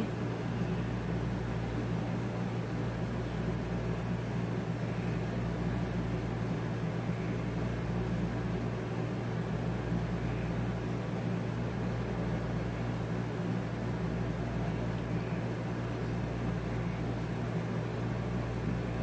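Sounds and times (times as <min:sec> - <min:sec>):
air conditioner humming and hissing: 0:00.0 - 0:19.0.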